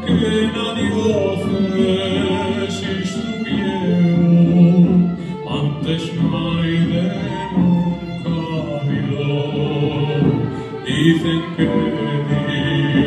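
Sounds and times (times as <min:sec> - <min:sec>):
person singing: 0:00.0 - 0:13.0
string orchestra playing: 0:00.0 - 0:13.0.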